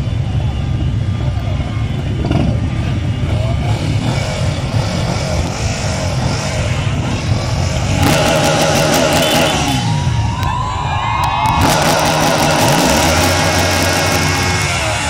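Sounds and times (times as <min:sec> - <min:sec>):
harsh clattering engine sound: 0:00.0 - 0:15.0
motorcycle engines rumbling: 0:00.0 - 0:15.0.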